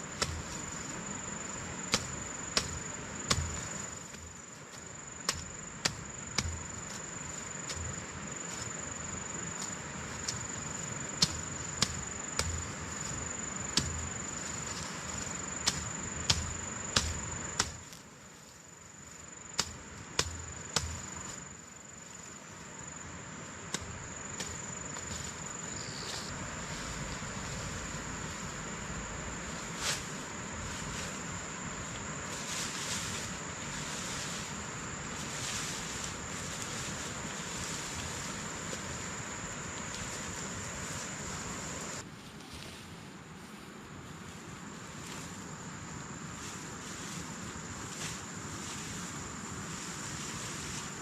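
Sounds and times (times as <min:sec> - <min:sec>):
high-pitched insect trill: 0:00.0 - 0:19.6, 0:20.3 - 0:42.0.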